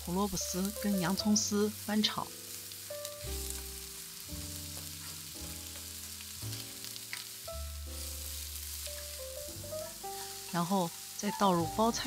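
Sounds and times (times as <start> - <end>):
background music: 0.0 - 12.0
vegetables sizzling in oil: 0.0 - 12.0.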